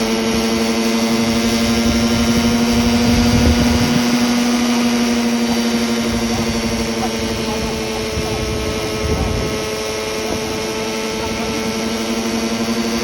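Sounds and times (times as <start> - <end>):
rc helicopter engine droning: 0.0 - 13.0
low rumbling: 1.4 - 12.5.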